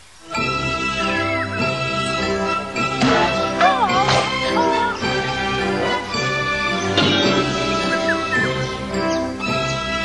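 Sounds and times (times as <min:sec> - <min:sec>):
background music with held chords: 0:00.2 - 0:10.0
wavering melody line: 0:00.3 - 0:10.0.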